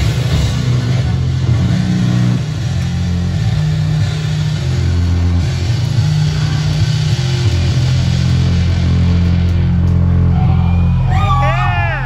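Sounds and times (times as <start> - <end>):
band playing live music: 0.0 - 12.0
electric guitar: 0.0 - 12.0
heavy bass line: 0.0 - 12.0.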